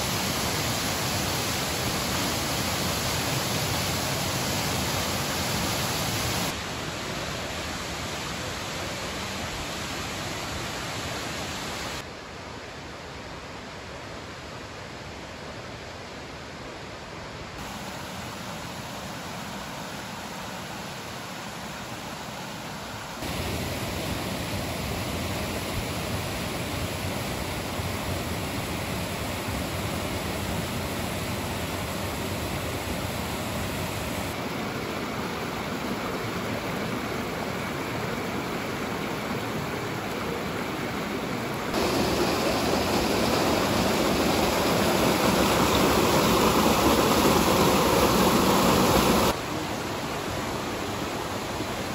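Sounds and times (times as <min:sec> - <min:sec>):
creek water rushing over rocks: 0:00.0 - 0:12.1, 0:17.6 - 0:51.9.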